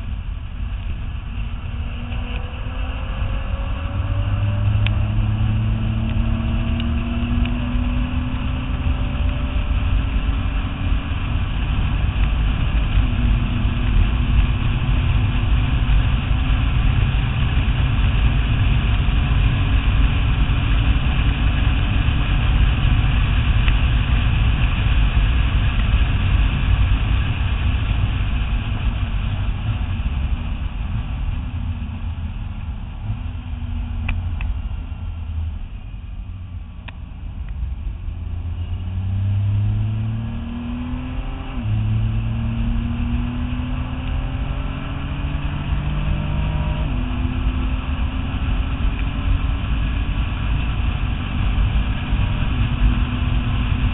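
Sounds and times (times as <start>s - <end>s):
car engine drone: 0.0s - 53.9s
road and wind noise: 0.0s - 53.9s.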